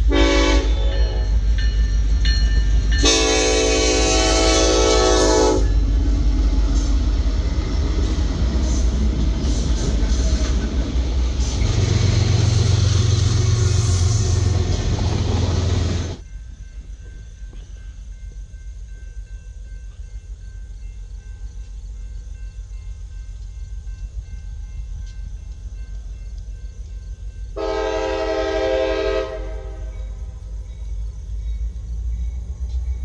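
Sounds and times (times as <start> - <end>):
diesel locomotive engine drone: 0.0 - 33.0
distant freight train rumble: 0.0 - 33.0
train wheels rumbling on rail: 0.0 - 33.0.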